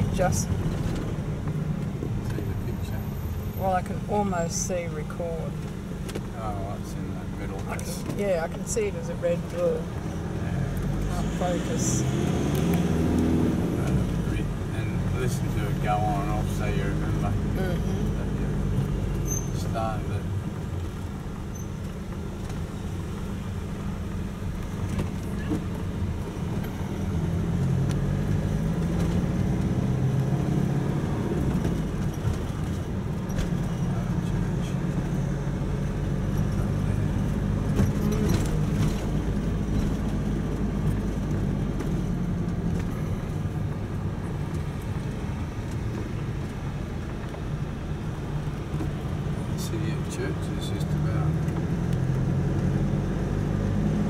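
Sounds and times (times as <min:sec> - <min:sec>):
road noise: 0:00.0 - 0:54.0
vehicle engine: 0:00.0 - 0:54.0.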